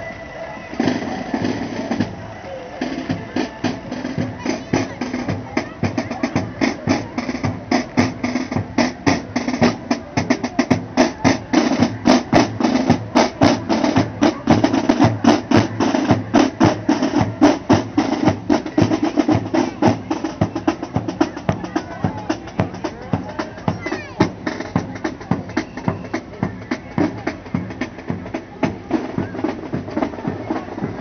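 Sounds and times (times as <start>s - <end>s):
drum band playing: 0.7s - 31.0s
rapid snare drum strokes: 0.7s - 31.0s.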